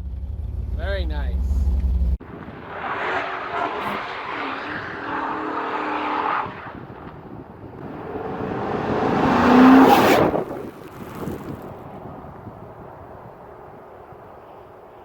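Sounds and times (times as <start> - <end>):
cars passing by: 0.4 - 15.0.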